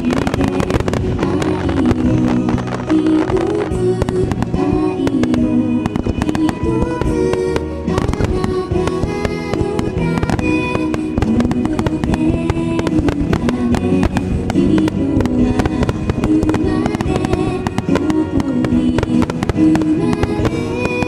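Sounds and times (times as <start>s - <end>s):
fireworks bursting and crackling: 0.0s - 21.0s
music playing: 0.0s - 21.0s.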